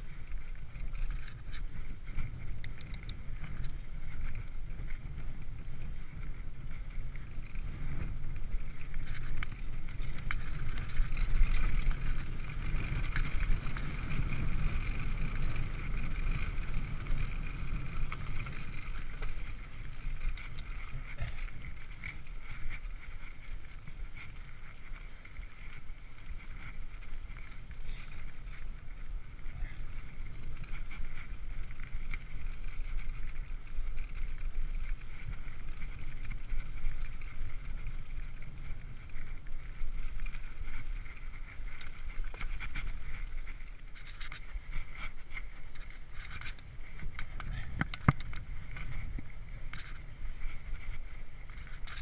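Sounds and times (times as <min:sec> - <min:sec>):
bike clicks and rattles: 0:00.0 - 0:52.0
bike tyres on dirt: 0:00.0 - 0:52.0
wind rumbling on microphone: 0:00.0 - 0:52.0.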